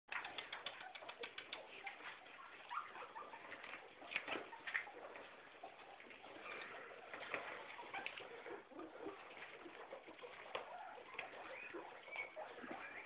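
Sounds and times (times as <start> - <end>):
faint squeaks: 0.1 - 13.0
guinea pigs rustling: 0.1 - 13.0
light clicks and patter: 0.1 - 13.0.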